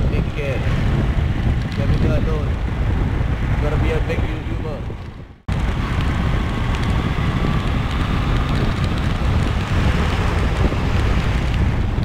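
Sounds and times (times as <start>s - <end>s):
motorcycle engine rumble: 0.0s - 12.0s
road noise: 0.0s - 12.0s
wind rushing over microphone: 0.0s - 12.0s.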